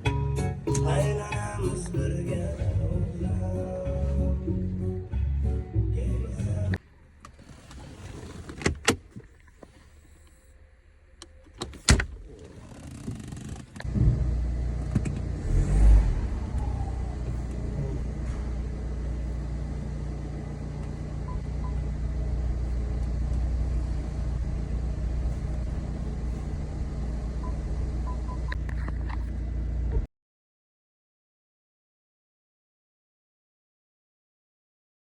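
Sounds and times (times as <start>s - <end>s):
car engine starting and idling: 0.0s - 30.1s.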